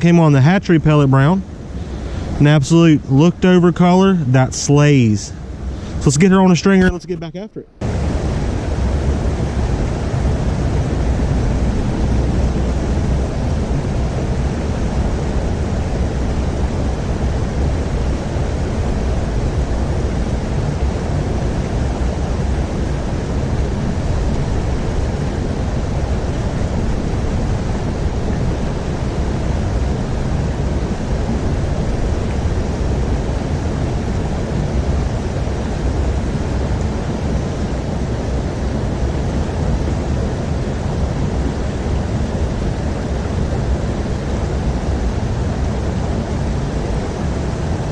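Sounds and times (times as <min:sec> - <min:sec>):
creek water rushing: 0:00.0 - 0:47.9.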